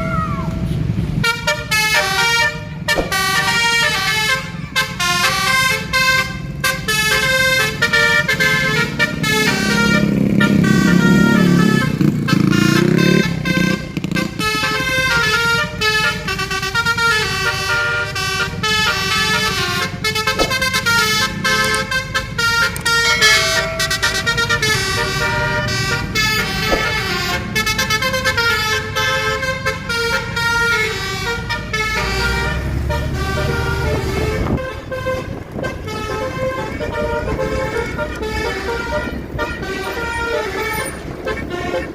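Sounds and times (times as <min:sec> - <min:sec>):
bus engines and traffic rumble: 0:00.0 - 0:41.9
musical bus horn playing a tune: 0:00.5 - 0:41.9.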